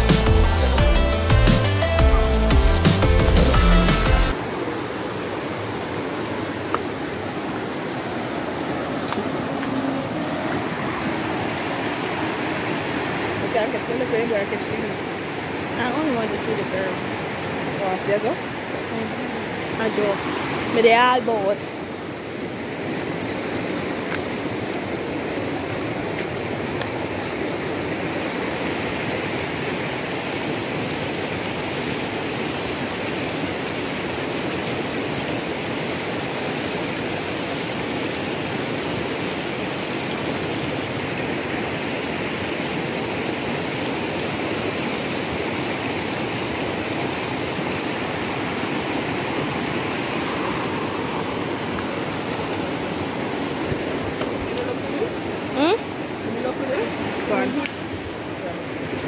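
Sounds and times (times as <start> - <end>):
river rushing over rapids: 0.0 - 59.0.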